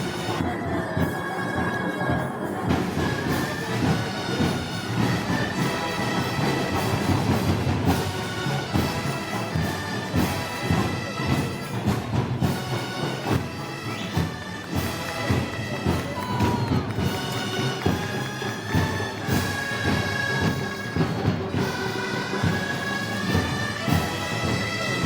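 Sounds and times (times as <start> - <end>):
brass band music: 0.0 - 0.4, 2.7 - 25.0.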